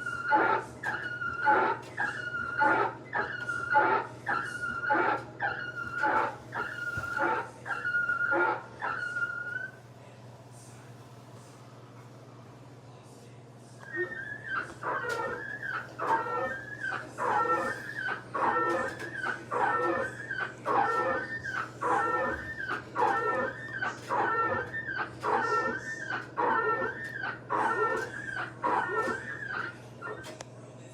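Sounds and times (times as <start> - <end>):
washing machine drum squealing: 0.0 - 9.8, 13.8 - 30.4
washing machine low hum: 0.0 - 30.9.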